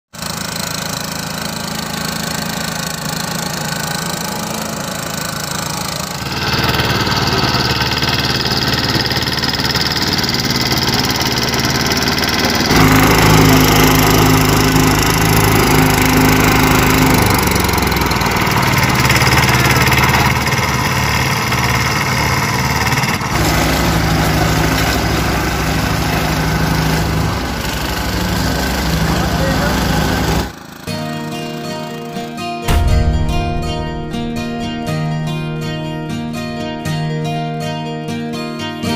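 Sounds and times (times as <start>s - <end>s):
drum roller engine humming: 0.2s - 31.0s, 32.7s - 38.0s.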